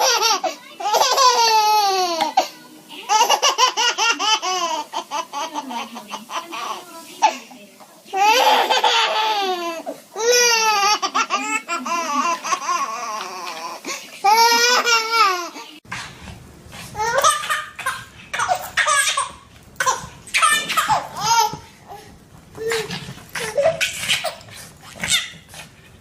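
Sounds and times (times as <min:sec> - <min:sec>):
baby laughing: 0:00.0 - 0:07.4, 0:08.2 - 0:15.7, 0:17.0 - 0:25.6.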